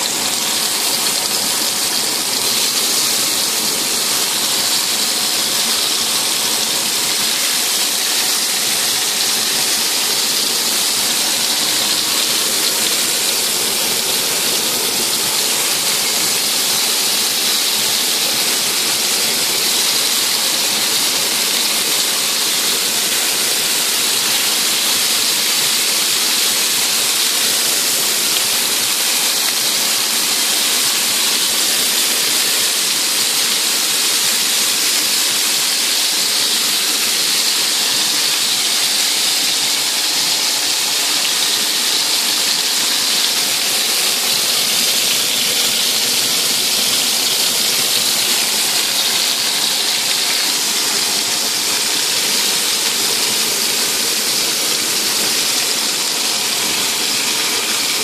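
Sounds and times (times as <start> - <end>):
skewers sizzling in hot oil: 0.0 - 58.0.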